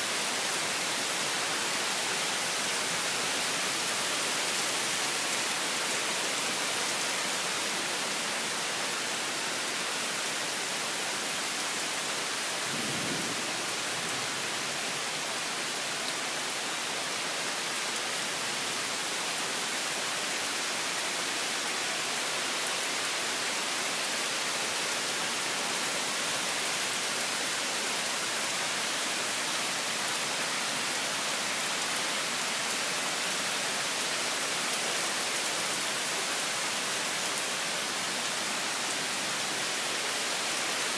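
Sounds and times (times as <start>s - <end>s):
torrential rain: 0.0s - 40.9s.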